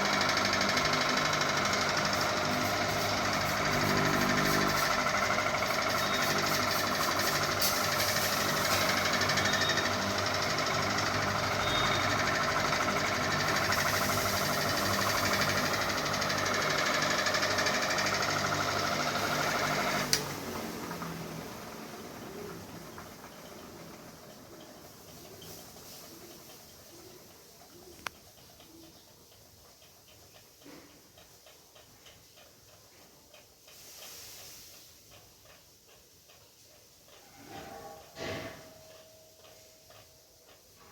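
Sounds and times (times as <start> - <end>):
faint regular ticking: 0.0 - 37.4, 38.8 - 40.9
ceiling fan rattling: 0.0 - 40.9.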